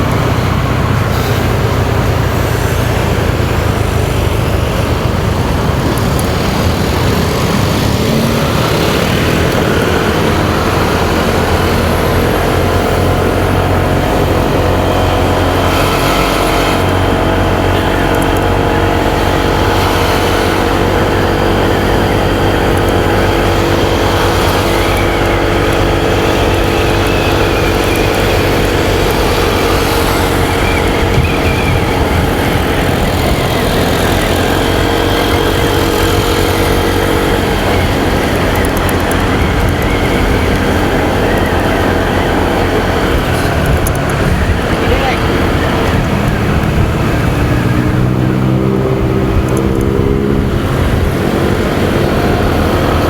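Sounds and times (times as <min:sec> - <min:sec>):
motorcycle engine running: 0:00.0 - 0:53.0
road traffic: 0:00.0 - 0:53.0
wind rush: 0:00.0 - 0:53.0.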